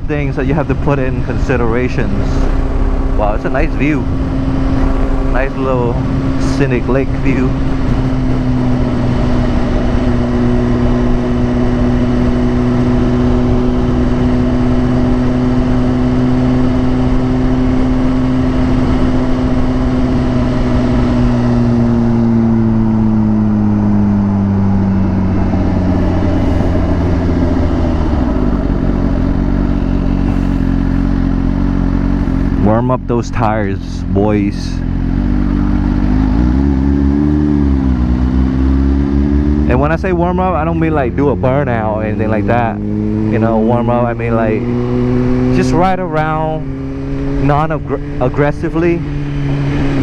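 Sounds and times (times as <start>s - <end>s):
wind rush over helmet mic: 0.0s - 32.7s, 42.1s - 50.0s
motorcycle engine cruising: 0.0s - 50.0s.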